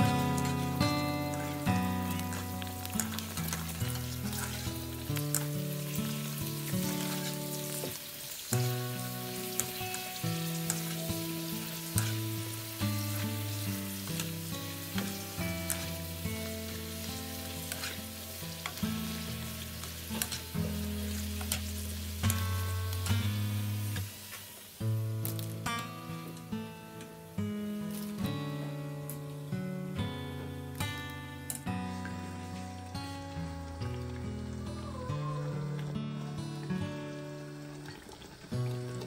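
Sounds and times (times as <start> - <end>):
food sizzling in hot oil: 0.0 - 29.7, 30.8 - 39.0
instrumental background music: 0.0 - 39.0.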